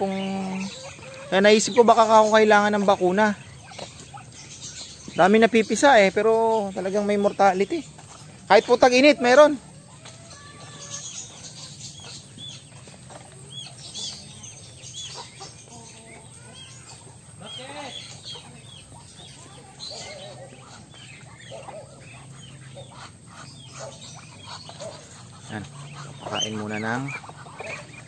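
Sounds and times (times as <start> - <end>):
ducklings peeping: 0.0 - 28.0
lower fowl calls: 0.0 - 28.0.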